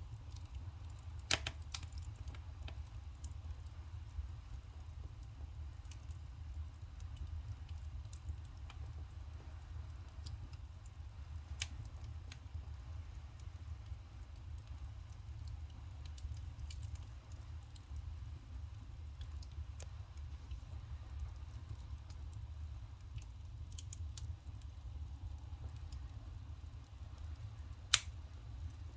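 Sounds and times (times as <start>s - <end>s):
firewood crackling and popping: 0.0s - 28.9s
low rumble of fire: 0.0s - 28.9s.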